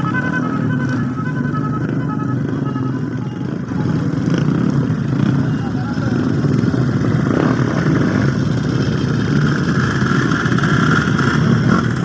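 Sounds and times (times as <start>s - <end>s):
motorcycle engines at low speed: 0.0s - 12.0s.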